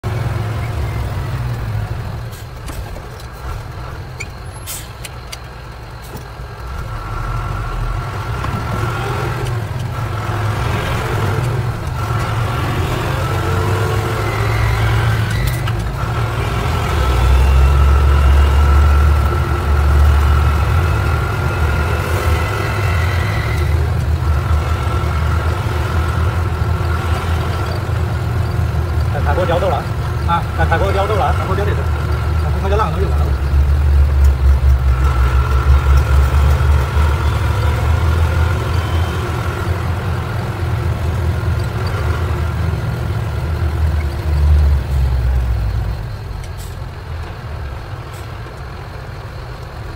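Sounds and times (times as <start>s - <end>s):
road noise: 0.0s - 49.9s
truck engine drone: 0.0s - 49.9s.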